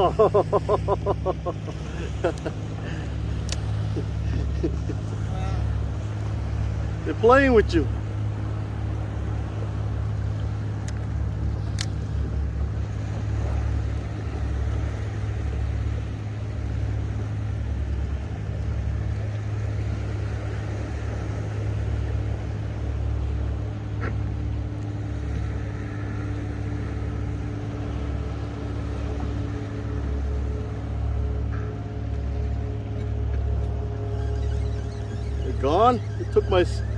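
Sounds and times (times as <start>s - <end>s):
boat engine rumbling: 0.0s - 36.9s.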